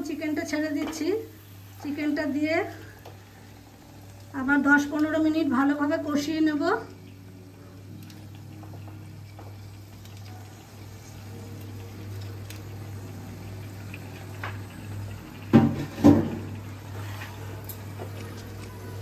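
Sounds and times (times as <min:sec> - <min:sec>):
soft wet sizzle: 0:00.0 - 0:19.0.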